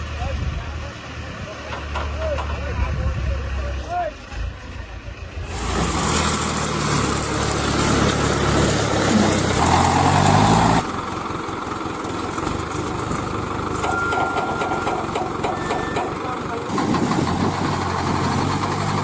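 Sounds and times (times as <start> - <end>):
backhoe diesel engine running: 0.0 - 19.0.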